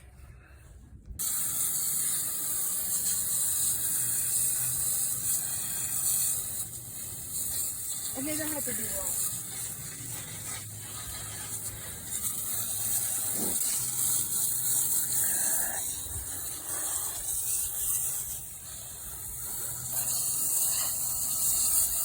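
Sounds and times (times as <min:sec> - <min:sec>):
water spraying hiss: 0:01.2 - 0:22.0.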